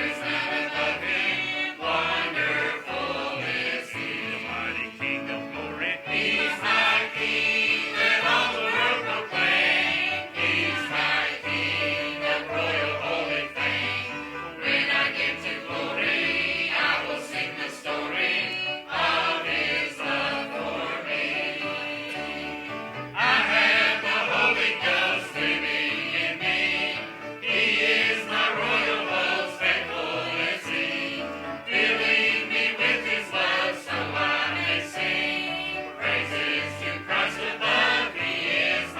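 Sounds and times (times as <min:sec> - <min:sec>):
choir singing a hymn: 0:00.0 - 0:38.9
instrumental accompaniment: 0:00.0 - 0:38.9.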